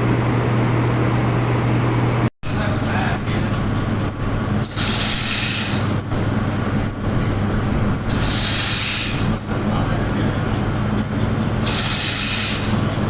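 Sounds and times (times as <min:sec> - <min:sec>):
industrial machinery hum: 0:00.0 - 0:13.0.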